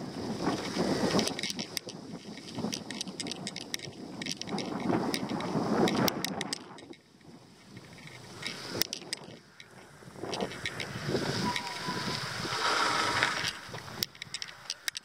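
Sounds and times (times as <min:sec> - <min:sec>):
bicycle tyres on dirt road: 0:00.0 - 0:15.0
wind on microphone: 0:00.0 - 0:15.0
sharp clicks and rattles: 0:00.4 - 0:15.0.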